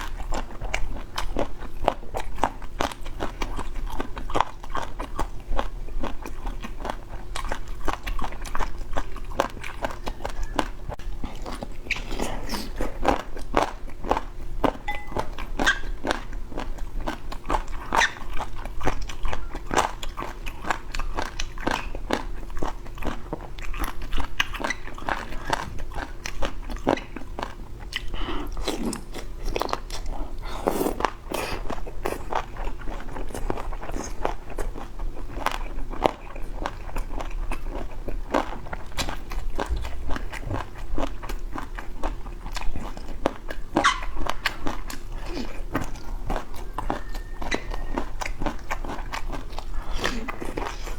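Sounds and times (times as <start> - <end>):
person chewing: 0.0 - 50.9.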